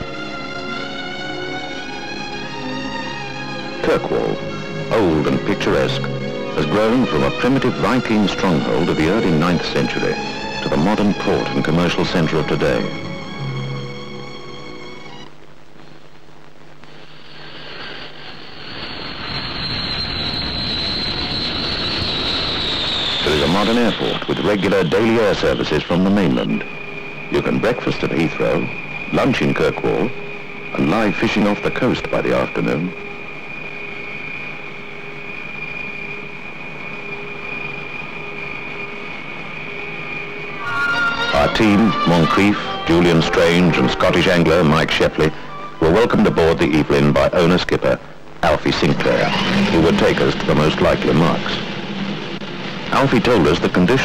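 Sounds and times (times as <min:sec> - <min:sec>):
propeller engines whining: 0:00.0 - 0:15.3, 0:17.4 - 0:54.0.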